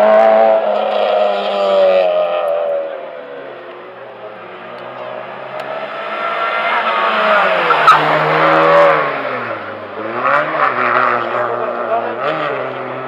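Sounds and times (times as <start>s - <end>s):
race car passing at high revs: 0.0s - 13.0s.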